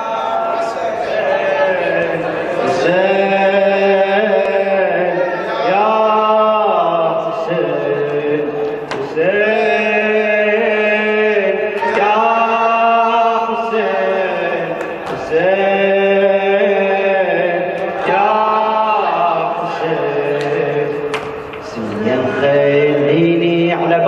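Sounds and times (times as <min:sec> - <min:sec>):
man chanting a lament: 0:00.0 - 0:24.0.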